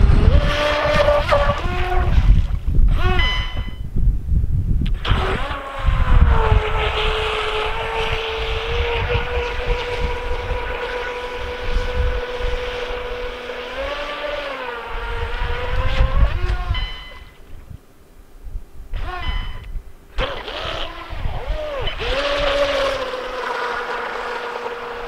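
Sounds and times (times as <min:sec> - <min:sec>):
electric motor whining: 0:00.0 - 0:03.7, 0:04.9 - 0:17.4, 0:19.0 - 0:25.0
wind rumbling on microphone: 0:00.0 - 0:25.0.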